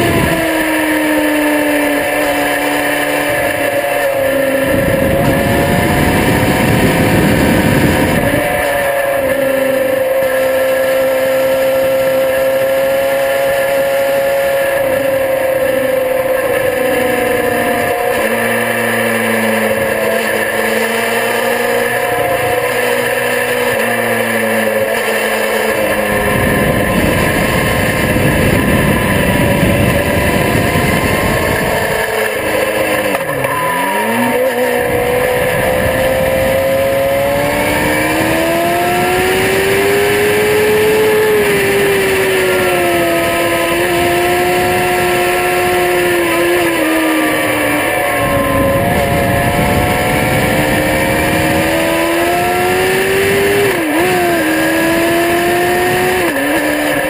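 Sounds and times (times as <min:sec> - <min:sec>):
wind rush on microphone: 0:00.0 - 0:24.7, 0:25.8 - 0:33.4, 0:34.0 - 0:57.0
motorcycle engine at high revs: 0:00.0 - 0:57.0.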